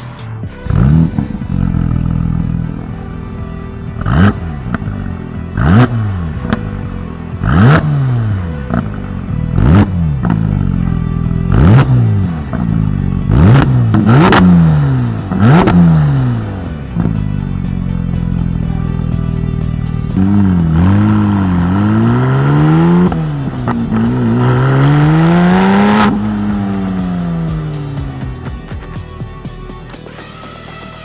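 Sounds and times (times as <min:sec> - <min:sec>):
car engine revving: 0:00.0 - 0:28.8.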